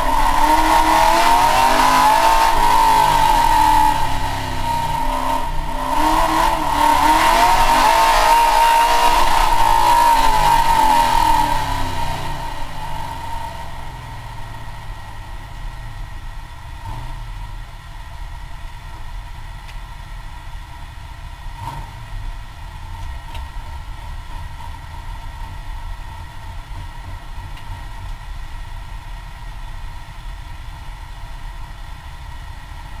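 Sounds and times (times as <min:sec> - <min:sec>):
car engine at low revs: 0:00.0 - 0:33.0.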